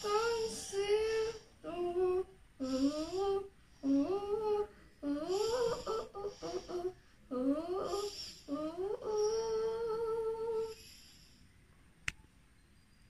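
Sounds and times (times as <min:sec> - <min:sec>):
girl humming: 0:00.0 - 0:10.8.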